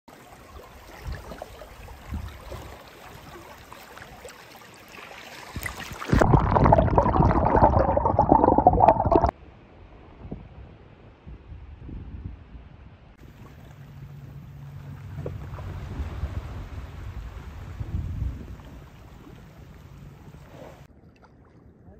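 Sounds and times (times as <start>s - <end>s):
water gurgling and sloshing: 0.1s - 9.3s, 13.2s - 21.8s.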